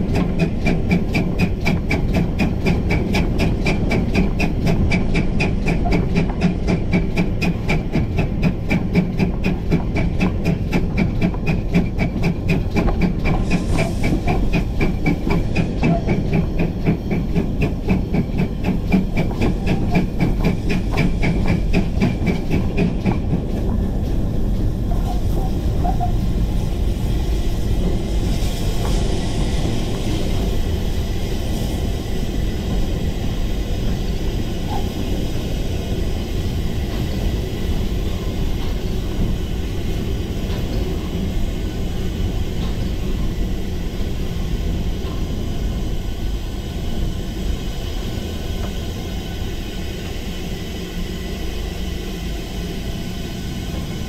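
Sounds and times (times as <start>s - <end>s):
locomotive rumbling along rails: 0.0s - 54.0s
steam locomotive exhaust beats: 0.0s - 54.0s.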